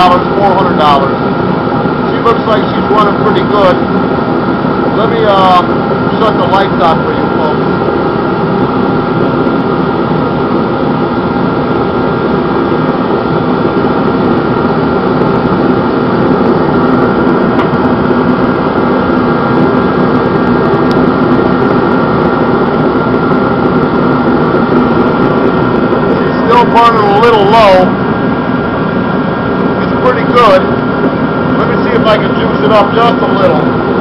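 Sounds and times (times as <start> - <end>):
forced-air heater running: 0.0 - 34.0.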